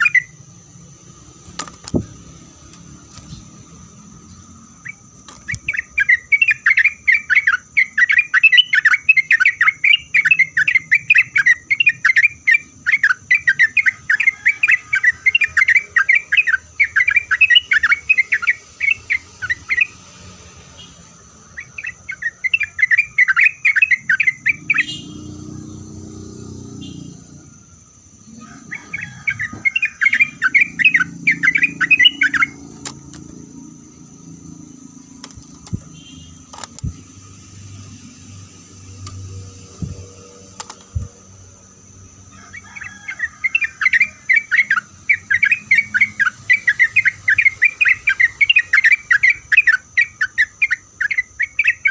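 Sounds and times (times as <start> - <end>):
bird chattering song: 0.0 - 0.5, 1.8 - 20.0, 20.8 - 51.9.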